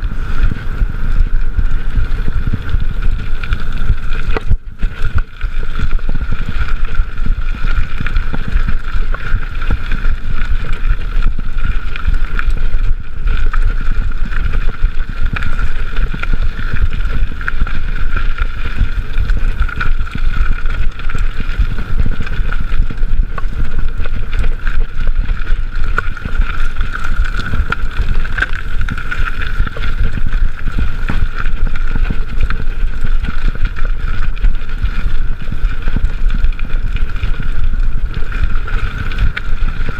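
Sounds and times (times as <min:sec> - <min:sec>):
wind buffeting microphone: 0:00.0 - 0:34.1
bike tyres rumbling and rattling: 0:00.0 - 0:39.9.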